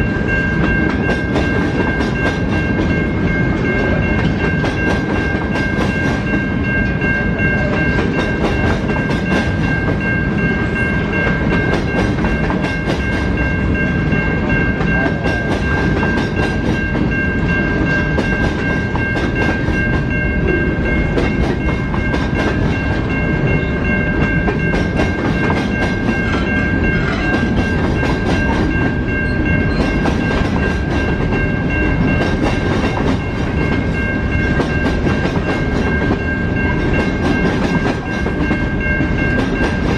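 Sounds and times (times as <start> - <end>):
high ringing tone: 0.0 - 39.9
train wheels clattering on rails: 0.0 - 39.9.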